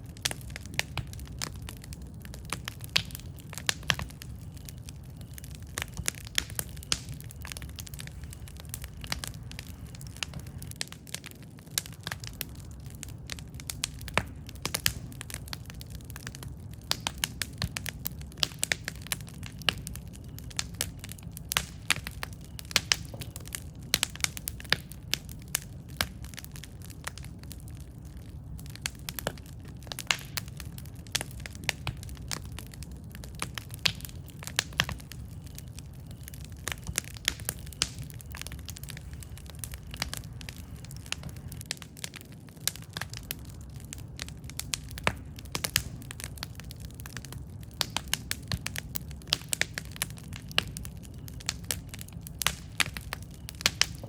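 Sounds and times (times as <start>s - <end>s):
low rumble of flames: 0.0s - 54.0s
wood crackling and popping: 0.0s - 54.0s.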